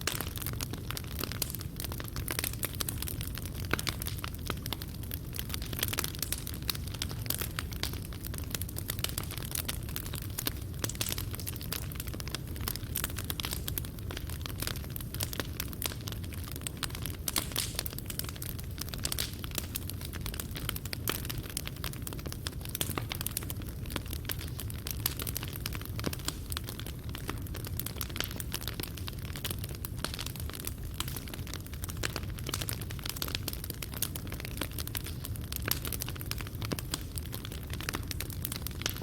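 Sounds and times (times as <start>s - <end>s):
fire crackling and popping: 0.0s - 39.0s
fire low rumble: 0.0s - 39.0s.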